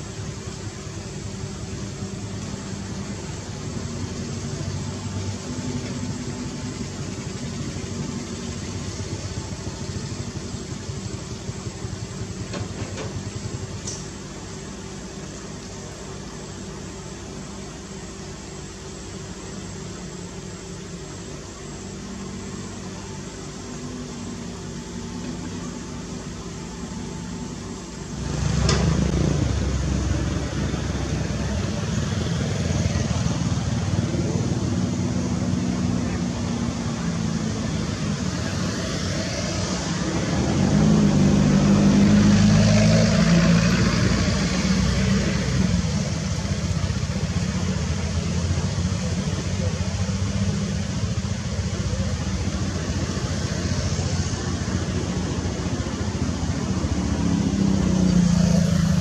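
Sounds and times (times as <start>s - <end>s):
excavator diesel engines running: 0.0s - 59.0s.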